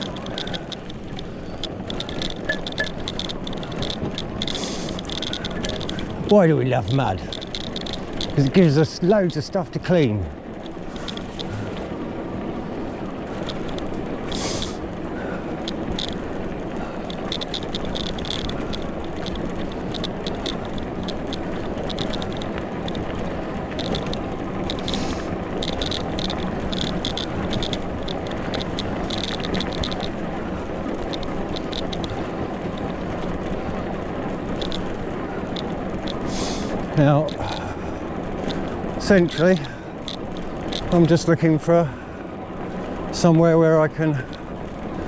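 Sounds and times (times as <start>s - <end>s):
small clicks and rattles: 0.0s - 45.0s
tyres rumbling on muddy track: 0.0s - 45.0s.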